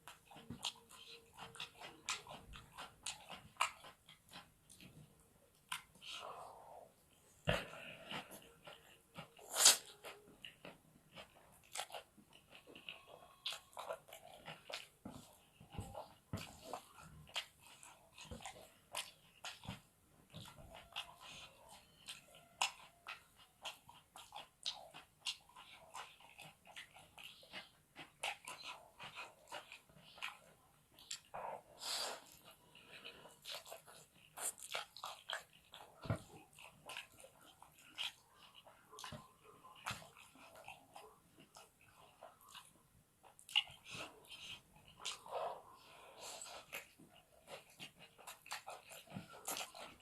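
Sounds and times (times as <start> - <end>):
person chewing noodles: 0.0 - 50.0.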